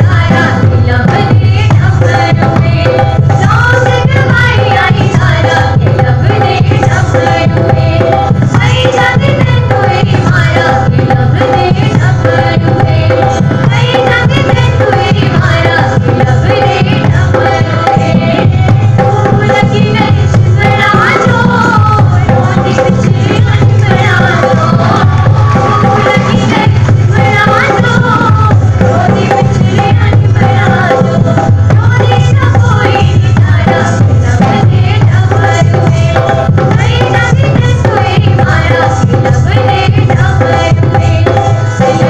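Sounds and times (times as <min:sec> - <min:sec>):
hand drum beat: 0:00.0 - 0:42.0.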